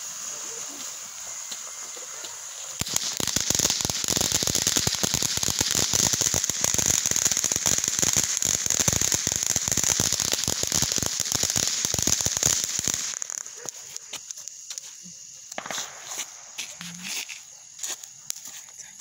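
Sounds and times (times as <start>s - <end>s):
fountain firework hissing and crackling: 0.0s - 19.0s.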